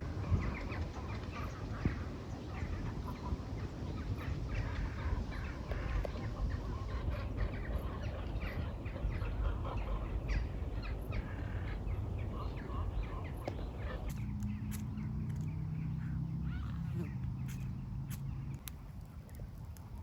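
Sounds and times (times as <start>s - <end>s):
steady low rumble: 0.0s - 20.0s
many birds calling: 0.2s - 18.7s.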